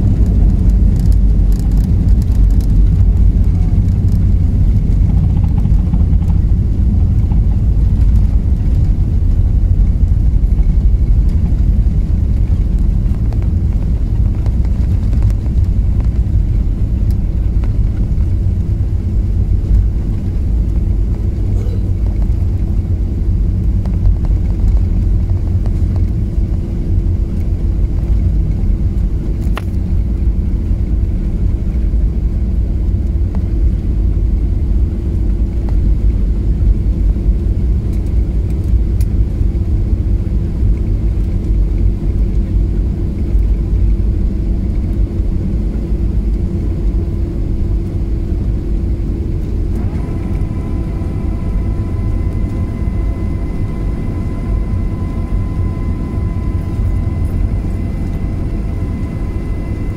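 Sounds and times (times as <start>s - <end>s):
ground rumble: 0.0s - 59.9s
jet engine drone: 0.0s - 59.9s
steady hum: 0.0s - 59.9s.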